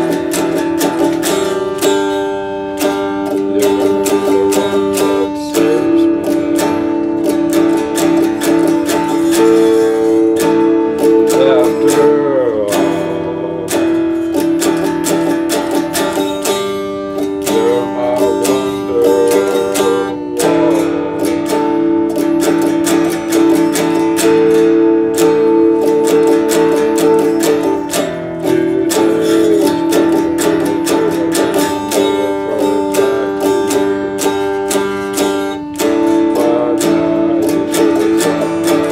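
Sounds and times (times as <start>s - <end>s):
electric guitar strummed: 0.0s - 38.9s.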